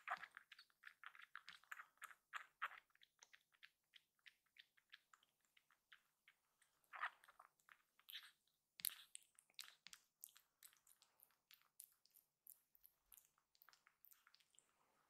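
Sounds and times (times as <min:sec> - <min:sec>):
kitten suckling from bottle: 0:00.0 - 0:14.8.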